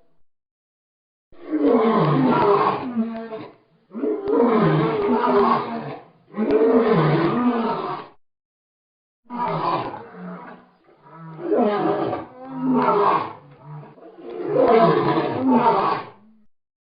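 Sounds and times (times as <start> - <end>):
lion roaring: 1.4 - 8.2, 9.3 - 16.4.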